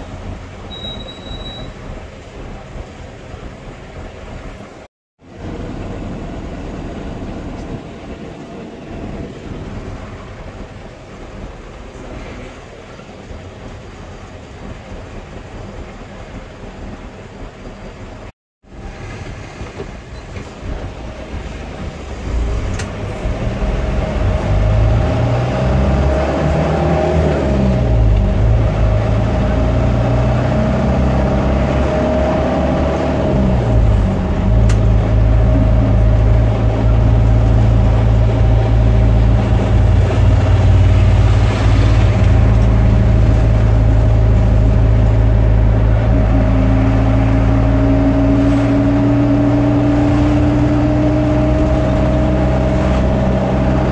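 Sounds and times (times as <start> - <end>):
vehicle engine running: 1.9 - 53.9.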